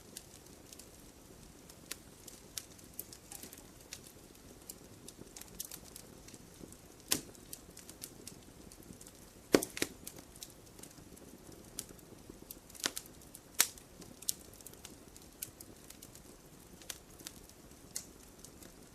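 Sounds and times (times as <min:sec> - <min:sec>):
fireplace fire crackling: 0:00.0 - 0:18.9
low steady hiss: 0:00.0 - 0:18.9
sharp pops of fire: 0:00.0 - 0:18.9.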